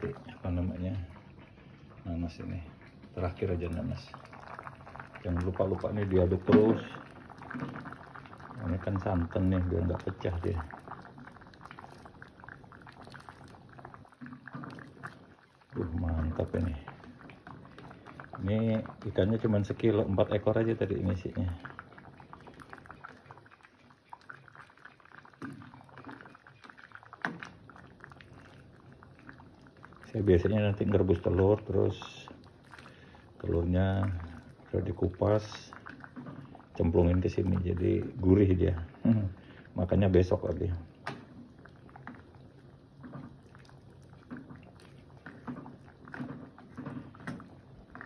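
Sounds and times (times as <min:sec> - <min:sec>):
ladle stirring stew: 0:00.0 - 0:48.0
stew boiling with bubbling pops: 0:00.0 - 0:48.0.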